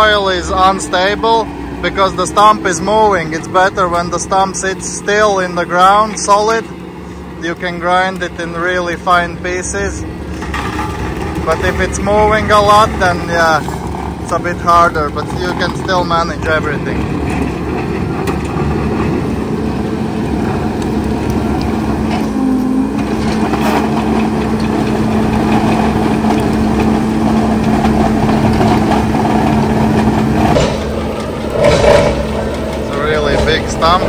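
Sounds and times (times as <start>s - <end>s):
machine drone: 0.0s - 34.0s
rough grinding: 0.0s - 34.0s
steady hum: 0.0s - 34.0s.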